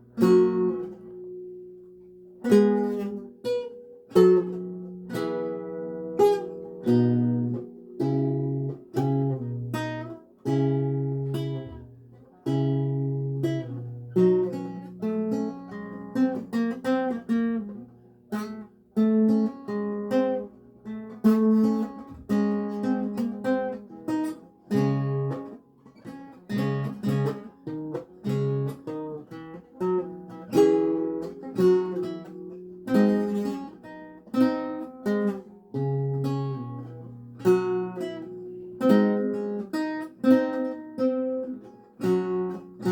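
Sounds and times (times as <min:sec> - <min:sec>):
solo lute playing: 0:00.0 - 0:42.9.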